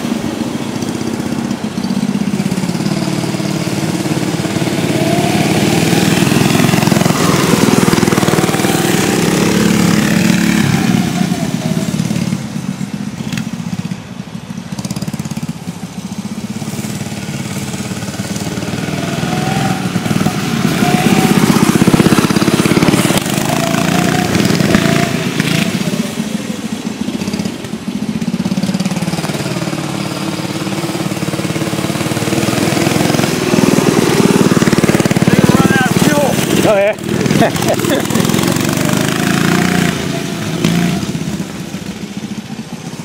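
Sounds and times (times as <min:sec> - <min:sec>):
mini bike engine revving: 0:00.0 - 0:43.0.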